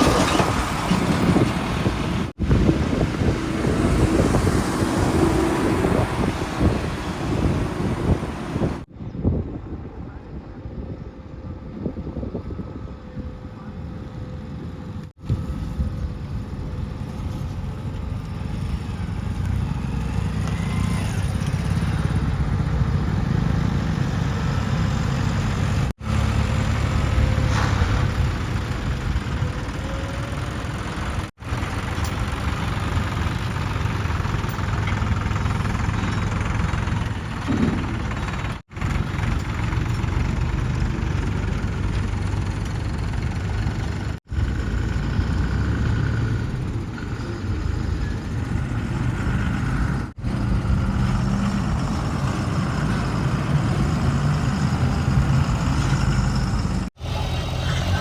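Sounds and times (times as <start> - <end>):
heavy diesel engines running: 0.0 - 8.9, 12.5 - 58.0.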